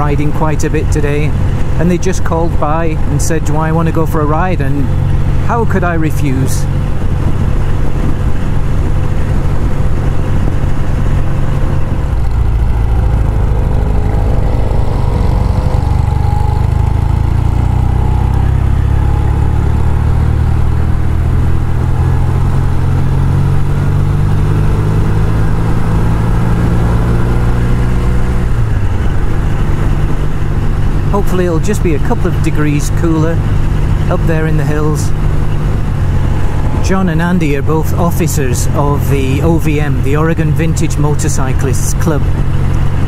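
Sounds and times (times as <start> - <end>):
motorcycle engine running: 0.0 - 43.0
wind and road noise: 0.0 - 43.0.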